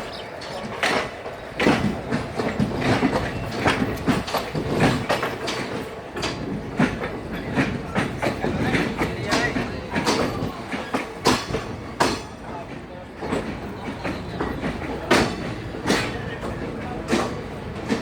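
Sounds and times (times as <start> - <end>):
train wheels clattering: 0.0 - 18.0.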